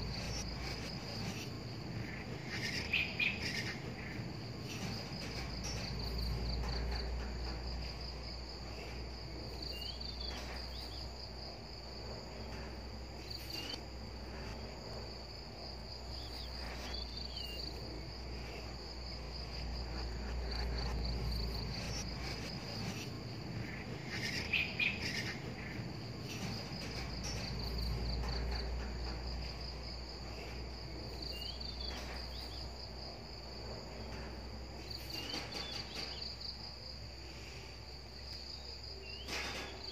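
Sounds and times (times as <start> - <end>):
insects trilling: 0.0 - 39.9
short insect chirps: 0.0 - 39.9.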